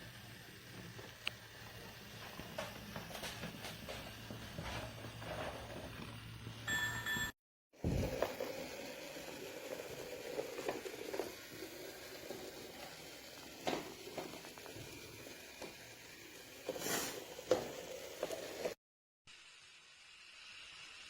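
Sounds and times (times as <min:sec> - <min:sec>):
toy train motor whirring: 0:00.0 - 0:04.5, 0:08.1 - 0:21.0.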